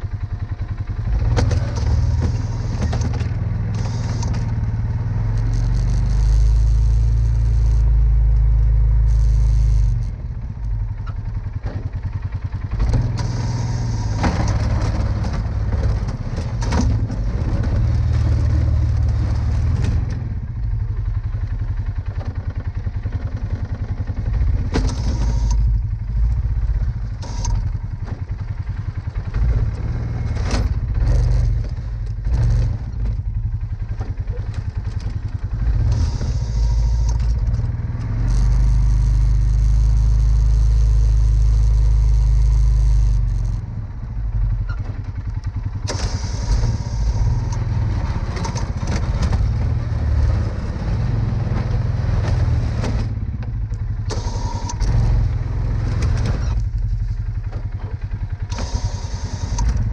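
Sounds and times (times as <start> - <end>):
atv engine revving: 0.0 - 59.9
plow blade knocking and scraping: 0.0 - 59.9.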